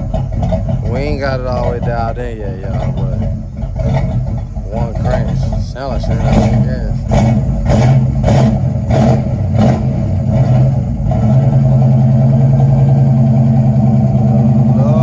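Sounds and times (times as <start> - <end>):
engine surging and idling: 0.0 - 15.0.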